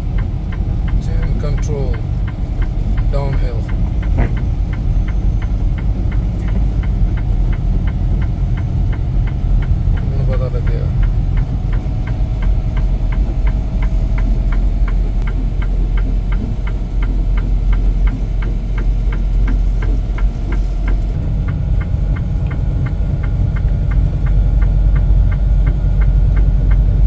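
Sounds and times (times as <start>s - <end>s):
truck engine and road drone: 0.0s - 27.0s
even clicking: 0.1s - 27.0s.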